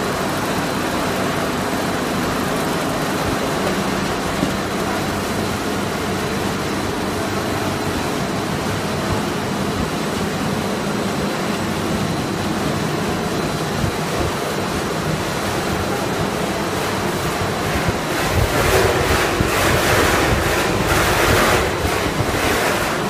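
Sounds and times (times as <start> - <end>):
machinery rushing noise: 0.0 - 23.0.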